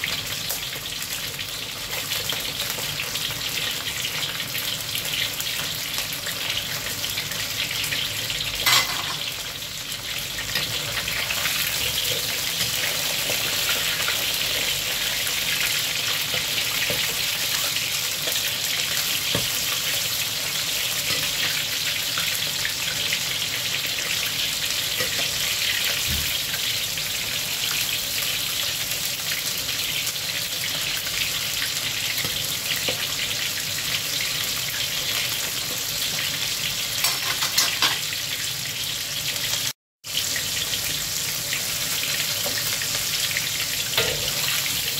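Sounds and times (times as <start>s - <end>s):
meat sizzling in hot oil: 0.0s - 44.9s.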